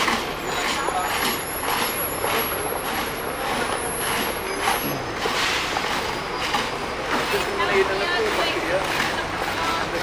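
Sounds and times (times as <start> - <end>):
traffic noise: 0.0 - 10.0.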